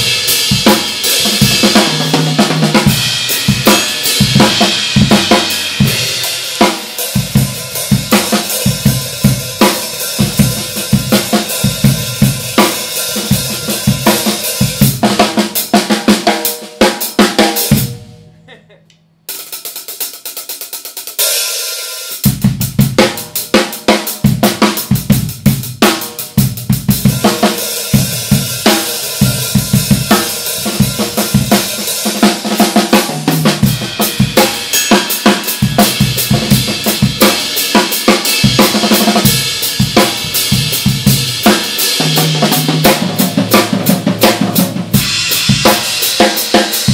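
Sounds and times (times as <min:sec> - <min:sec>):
drum kit groove with bright hi-hats: 0:00.0 - 0:18.2, 0:19.2 - 0:46.9.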